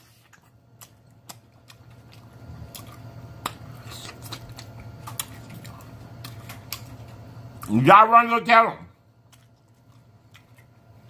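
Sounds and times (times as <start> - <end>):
man chewing food: 0.0 - 7.8, 9.0 - 11.0
low steady hum: 0.0 - 11.0.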